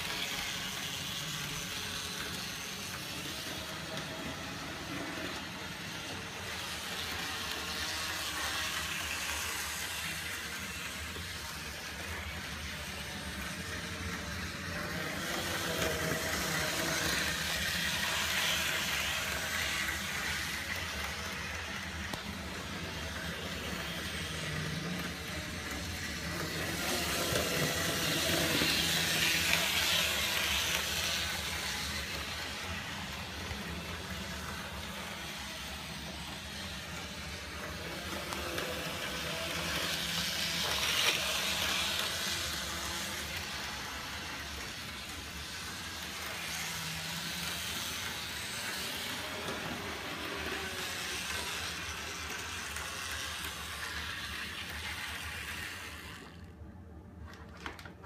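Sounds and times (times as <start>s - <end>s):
model train whirring on track: 0.0s - 58.0s.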